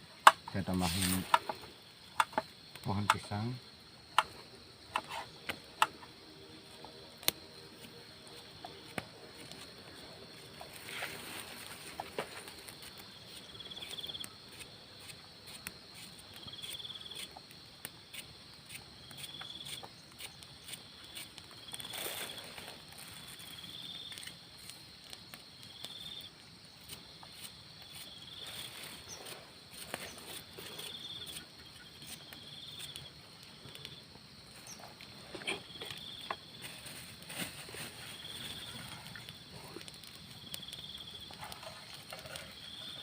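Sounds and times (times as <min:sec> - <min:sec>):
insect high chirp: 0:00.0 - 0:43.0.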